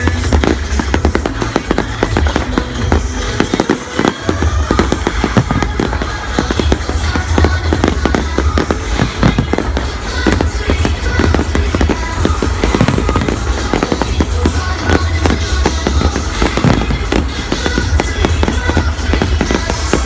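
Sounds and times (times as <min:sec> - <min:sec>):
fireworks bangs and crackles: 0:00.0 - 0:20.0
loud music with heavy bass: 0:00.0 - 0:20.0.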